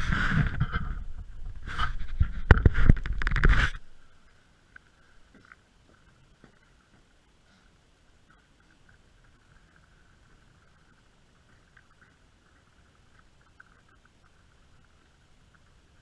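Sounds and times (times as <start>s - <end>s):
light crackle: 0.0s - 16.0s
low steady rumble: 0.0s - 16.0s.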